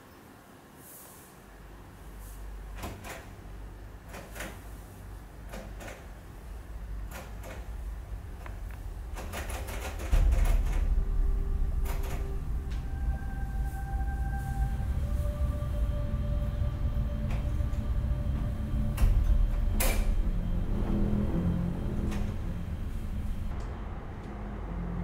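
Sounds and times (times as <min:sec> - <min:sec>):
low rumble: 0:04.8 - 0:25.0.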